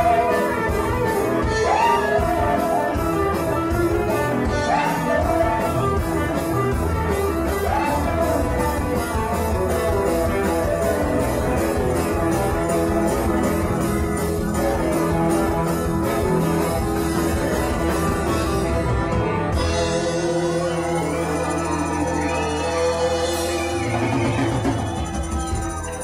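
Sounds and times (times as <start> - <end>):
drums: 0.0 - 26.0
electric bass: 0.0 - 26.0
electric guitar: 0.0 - 26.0
keyboard: 0.0 - 26.0.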